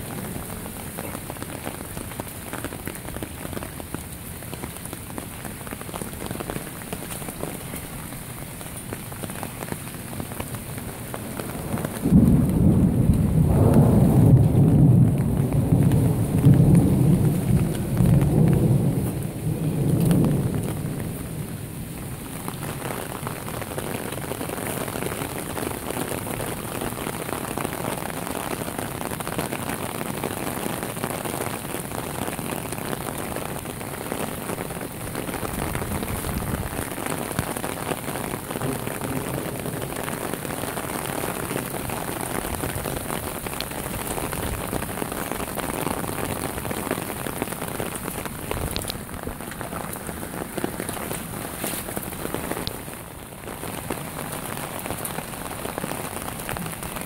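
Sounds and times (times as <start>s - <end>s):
heavy rain on water and grass: 0.0s - 57.0s.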